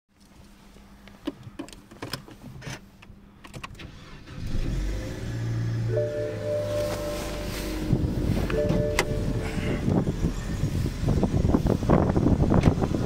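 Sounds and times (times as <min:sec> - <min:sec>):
car engine starting and idling: 0:00.3 - 0:13.0.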